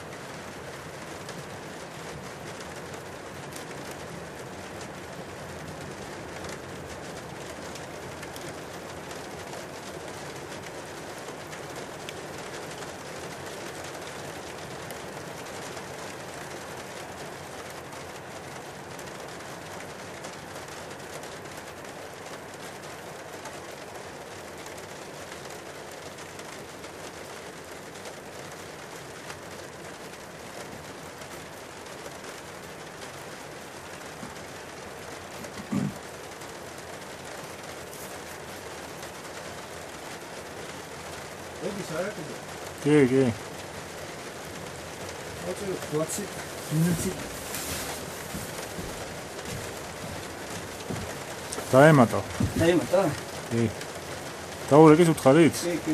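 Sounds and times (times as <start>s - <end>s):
mud flow rushing: 0.0s - 55.9s.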